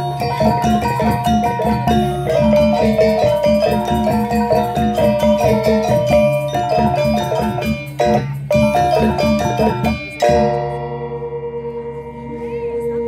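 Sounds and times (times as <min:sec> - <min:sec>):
steady low tone: 0:00.0 - 0:13.0.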